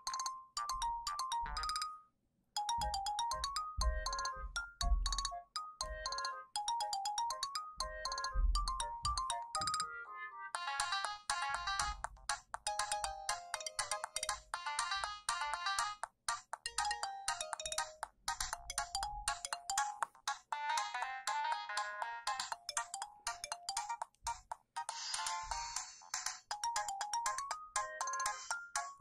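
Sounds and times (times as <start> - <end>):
polyphonic phone ringtone melodies: 0.0 - 25.8, 26.5 - 29.0.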